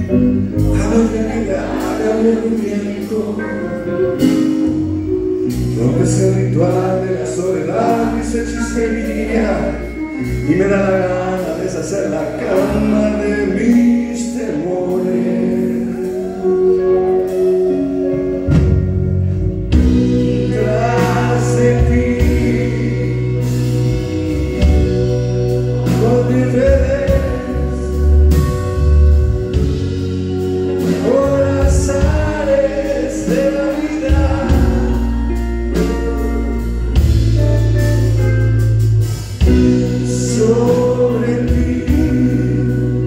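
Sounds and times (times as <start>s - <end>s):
man singing: 0.0s - 18.6s, 19.7s - 38.3s, 39.4s - 43.0s
blues rock band playing: 0.0s - 43.0s.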